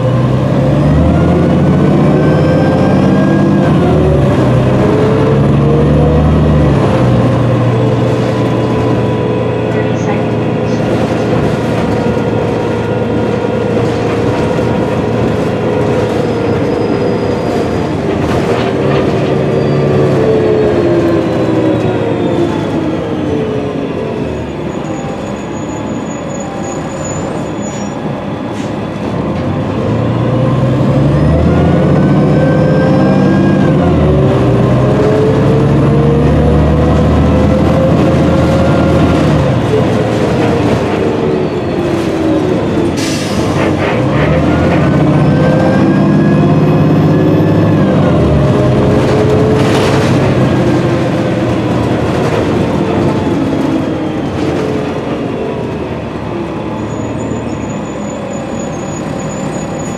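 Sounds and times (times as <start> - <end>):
bus engine whine: 0.0 - 59.9.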